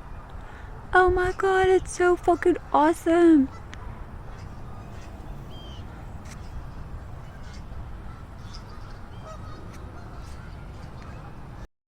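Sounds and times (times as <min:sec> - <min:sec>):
wind rumble on microphone: 0:00.0 - 0:11.7
geese honking: 0:02.0 - 0:11.7.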